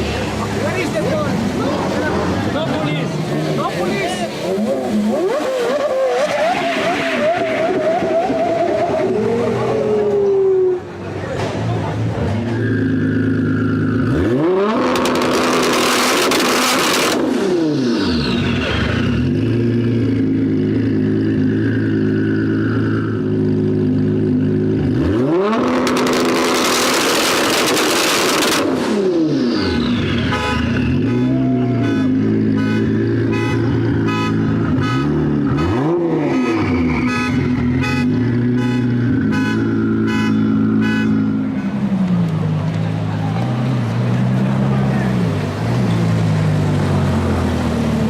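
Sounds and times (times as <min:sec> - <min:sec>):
sports car engine revving: 0:00.0 - 0:10.8, 0:12.3 - 0:48.0.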